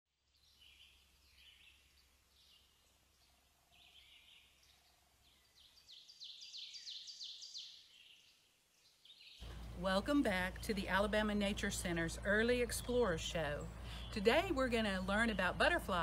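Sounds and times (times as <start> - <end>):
songbird chirping: 0.1 - 16.0.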